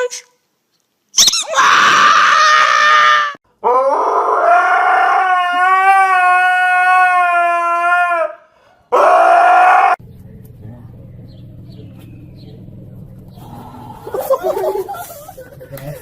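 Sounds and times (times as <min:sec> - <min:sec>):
dog howling: 0:01.4 - 0:14.9.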